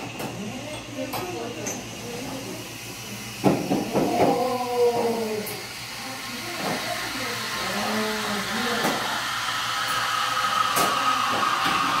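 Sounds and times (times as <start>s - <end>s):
steam wand hissing: 1.4s - 12.0s.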